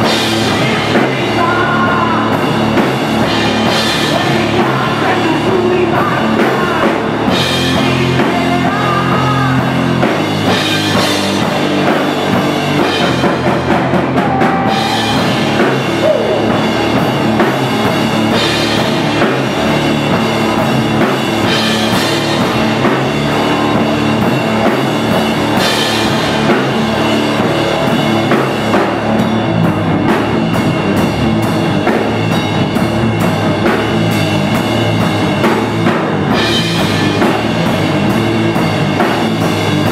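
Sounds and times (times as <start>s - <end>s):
drum kit with cymbals: 0.0s - 39.9s
electric guitar through amplifiers: 0.0s - 39.9s.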